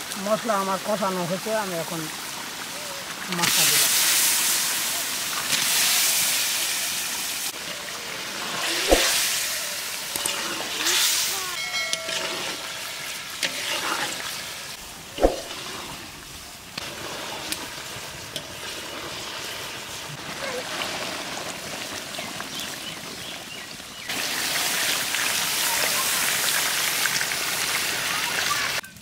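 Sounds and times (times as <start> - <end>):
curry frying in metal pan: 0.0 - 29.0
water poured into hot pan: 1.3 - 28.8.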